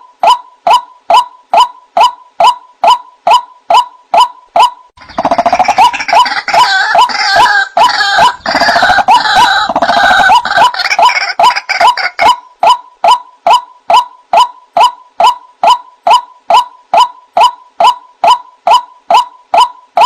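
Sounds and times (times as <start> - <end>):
waterhen calling: 0.2 - 19.7.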